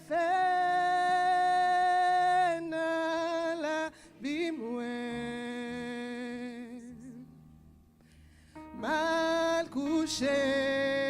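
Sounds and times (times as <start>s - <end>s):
person singing worship song: 0.0s - 11.0s.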